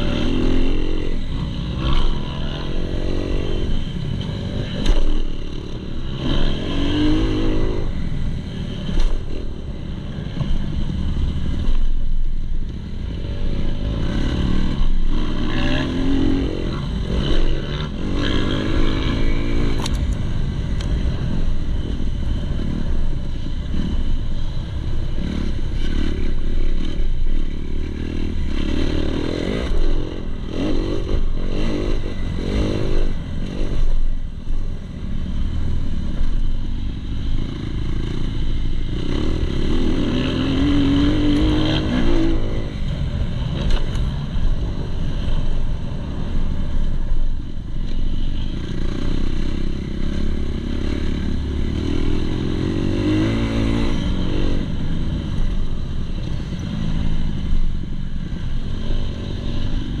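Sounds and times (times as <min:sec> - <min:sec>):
motocross bike engine revving: 0:00.0 - 0:12.0, 0:12.9 - 0:34.1, 0:34.9 - 0:46.9, 0:47.8 - 0:57.5.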